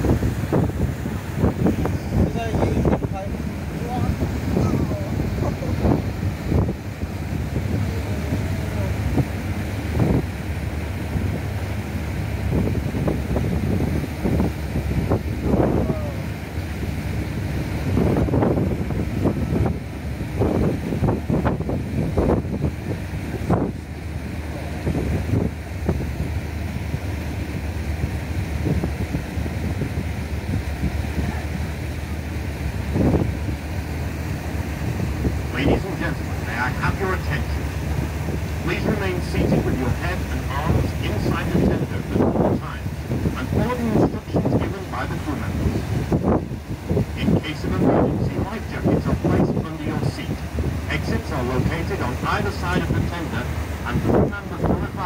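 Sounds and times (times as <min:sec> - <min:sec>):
boat engine rumble: 0:00.0 - 0:55.0
water splashing along hull: 0:00.0 - 0:55.0
wind buffeting microphone: 0:00.0 - 0:55.0.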